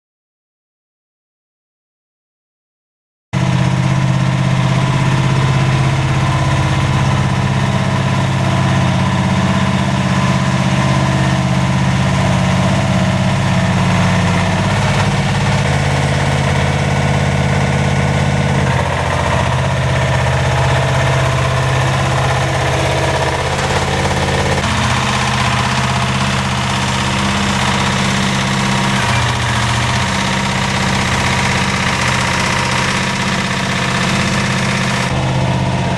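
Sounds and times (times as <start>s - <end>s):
diesel engine running: 3.4s - 35.9s.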